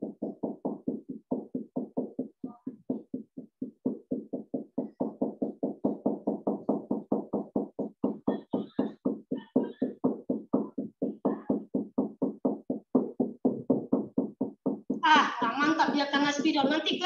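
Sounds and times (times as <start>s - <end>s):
marker scratching on whiteboard: 0.0s - 16.8s.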